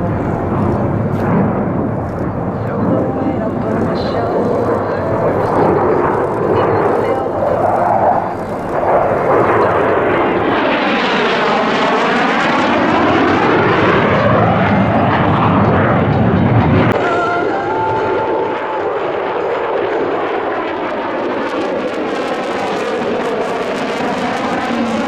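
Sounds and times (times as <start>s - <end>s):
jet fighter engines roaring: 0.0s - 25.0s.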